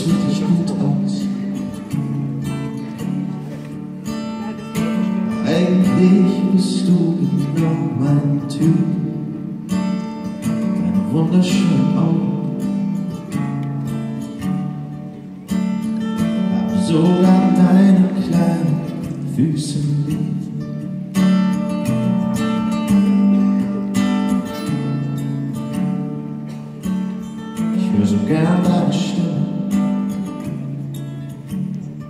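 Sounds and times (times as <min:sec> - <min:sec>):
acoustic guitar strummed: 0:00.0 - 0:32.0.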